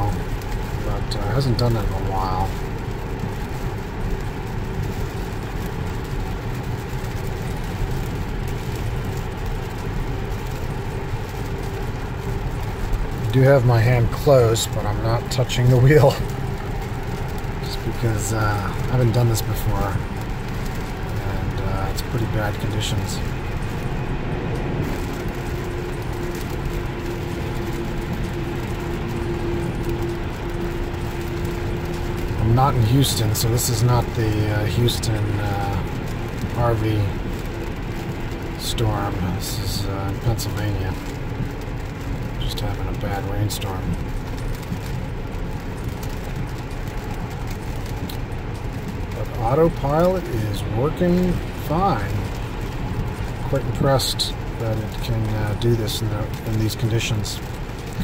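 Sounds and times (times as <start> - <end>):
rain on car: 0.0 - 58.0
wet tyre and road rumble: 0.0 - 58.0.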